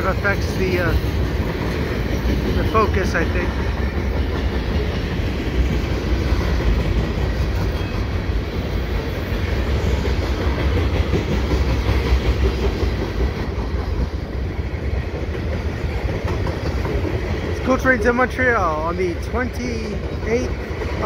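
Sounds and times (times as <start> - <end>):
steel wheels on rails: 0.0 - 21.0.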